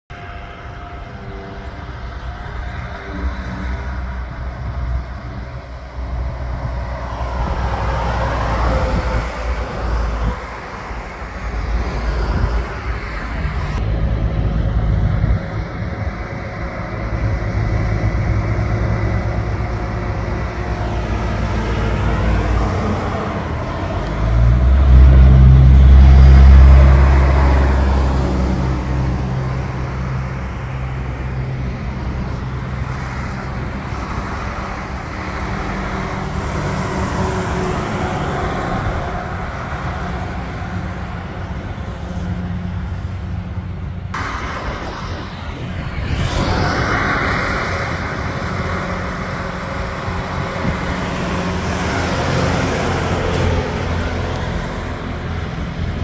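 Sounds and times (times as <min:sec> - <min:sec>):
diesel truck engine drone: 0:00.1 - 0:56.0
road traffic passing: 0:00.1 - 0:56.0.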